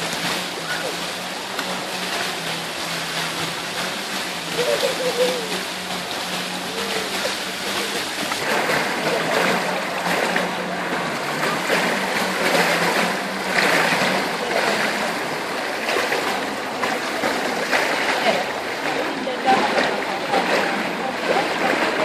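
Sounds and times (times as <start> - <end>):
low steady hum: 0.0 - 22.0
pool water lapping: 0.0 - 22.0
water splashing and pouring: 0.0 - 22.0.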